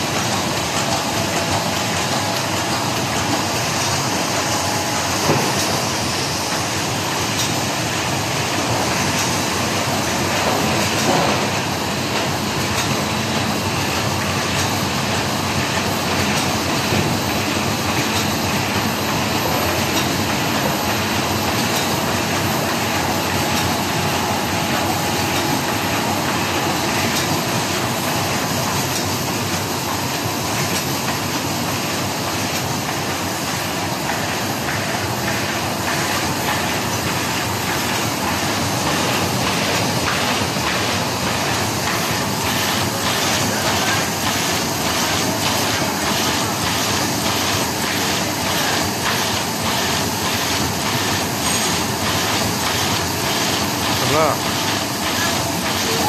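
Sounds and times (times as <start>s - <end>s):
laminating machine running: 0.0s - 56.0s.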